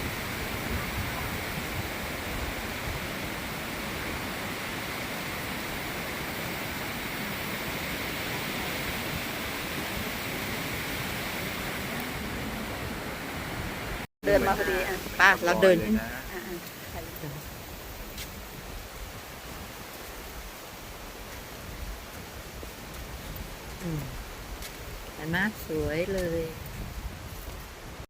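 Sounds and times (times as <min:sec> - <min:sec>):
wind buffeting microphone: 0:00.0 - 0:04.4, 0:08.1 - 0:28.0.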